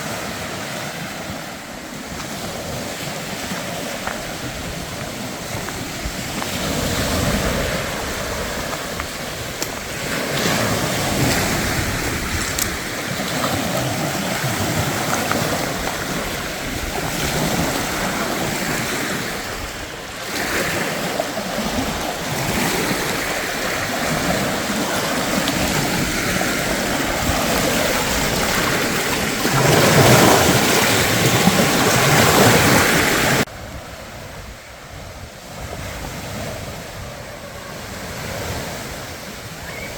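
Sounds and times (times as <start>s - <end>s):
wind rushing in gusts: 0.0s - 39.9s.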